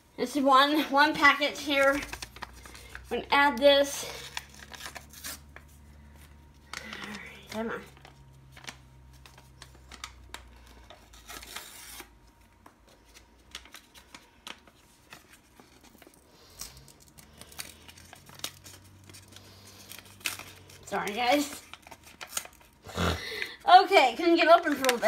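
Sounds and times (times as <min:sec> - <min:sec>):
packet rustling: 0:00.8 - 0:25.0
packet crinkling: 0:01.7 - 0:22.8, 0:24.2 - 0:25.0.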